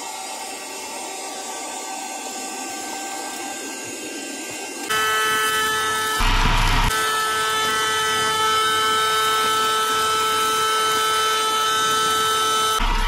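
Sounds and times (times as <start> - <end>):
vacuum cleaner motor whine: 0.0 - 13.0
low hum: 0.4 - 13.0.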